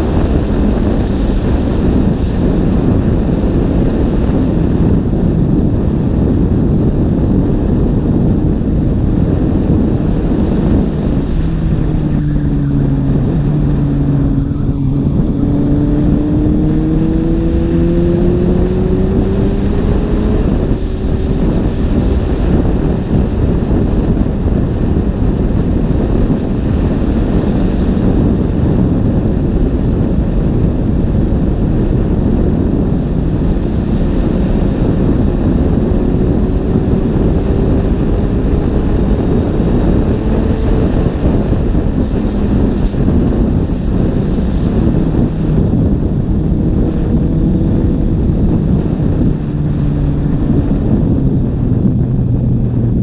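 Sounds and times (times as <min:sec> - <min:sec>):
motorcycle engine: 0:00.0 - 0:53.0
wind noise on microphone: 0:00.0 - 0:53.0.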